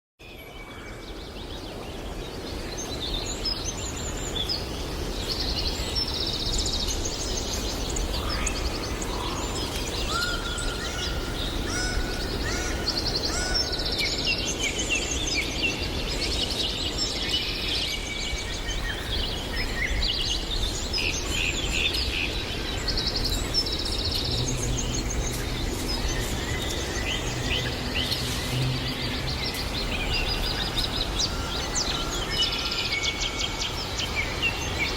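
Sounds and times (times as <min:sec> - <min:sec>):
forest background noise: 0:00.2 - 0:34.9
songbirds singing and chirping: 0:00.2 - 0:34.9.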